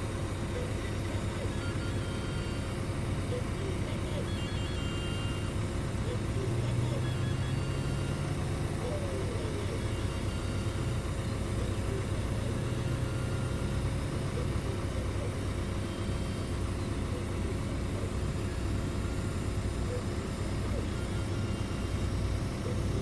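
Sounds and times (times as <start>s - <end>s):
heavy diesel machinery running: 0.0s - 23.0s.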